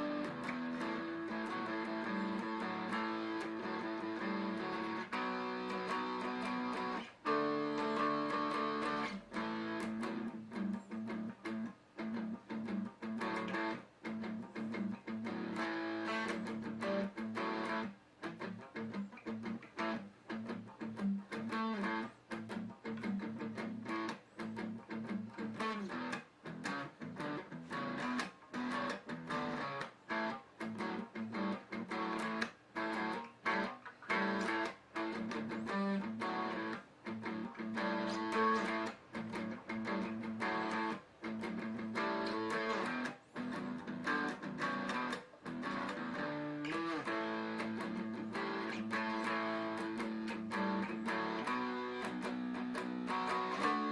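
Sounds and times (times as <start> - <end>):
guitar playing: 0.0 - 53.9.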